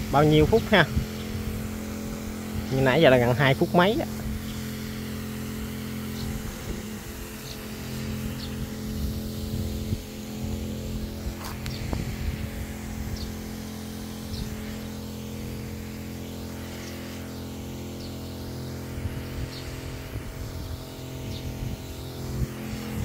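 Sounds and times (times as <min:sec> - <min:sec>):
water mist spraying: 0:00.0 - 0:23.0
water sprayer motor humming: 0:00.0 - 0:23.0.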